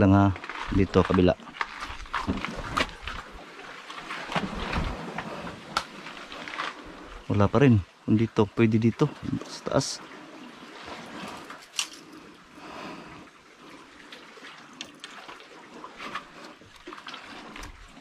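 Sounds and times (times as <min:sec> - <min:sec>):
faint water wash: 0:00.0 - 0:18.0.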